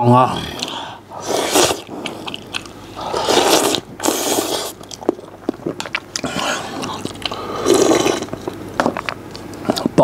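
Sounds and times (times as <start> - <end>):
small mouth sounds: 0.5 - 8.6
slurping and chewing: 0.5 - 10.0.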